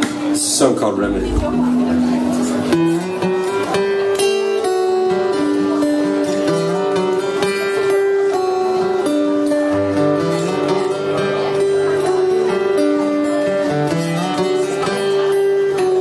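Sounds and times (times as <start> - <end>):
guitar melody of held notes: 0.0 - 16.0
strummed guitar chords: 0.0 - 16.0.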